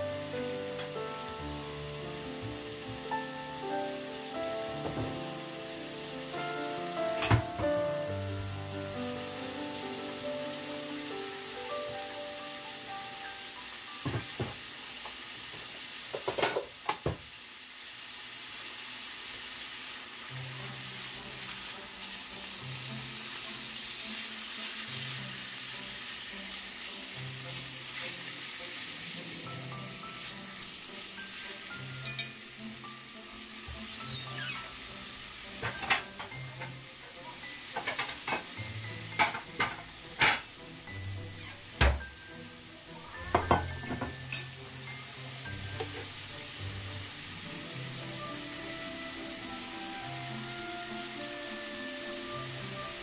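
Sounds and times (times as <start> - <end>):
hot dogs sizzling in oil: 0.0 - 53.0.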